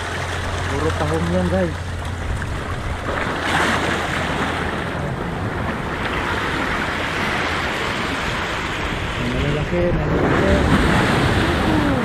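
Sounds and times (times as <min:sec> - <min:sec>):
surf washing against rocks: 0:00.0 - 0:12.0
wind rumble on microphone: 0:00.0 - 0:12.0.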